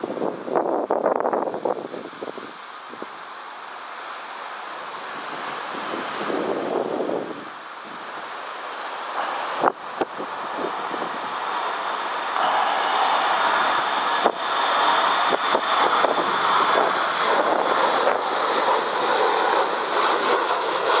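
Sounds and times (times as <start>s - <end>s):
jet engines roaring with whine: 0.0s - 21.0s.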